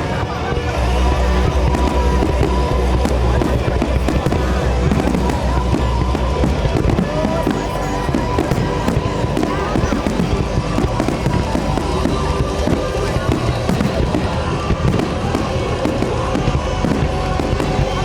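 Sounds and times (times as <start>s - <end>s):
fireworks crackling and booming: 0.0s - 18.0s
music playing: 0.0s - 18.0s.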